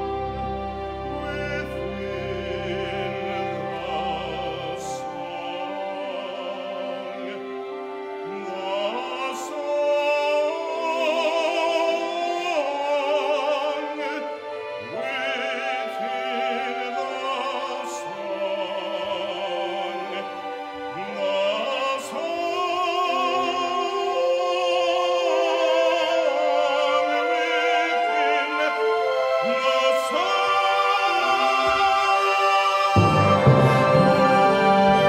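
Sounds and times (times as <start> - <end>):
baritone singing with vibrato: 0.0 - 35.0
symphony orchestra playing: 0.0 - 35.0.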